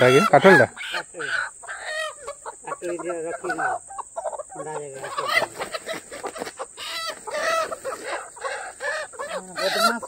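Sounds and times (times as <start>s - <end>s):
chickens squawking and clucking: 0.0s - 10.0s.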